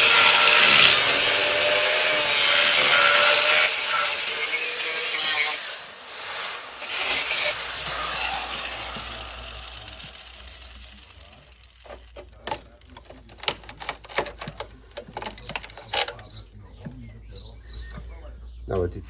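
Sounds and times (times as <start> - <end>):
power tool cutting metal: 0.0 - 16.3.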